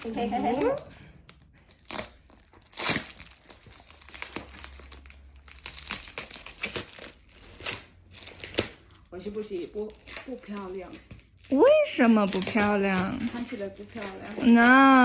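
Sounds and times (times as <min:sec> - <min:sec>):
parcel wrapping crinkling and tearing: 0:00.0 - 0:15.0.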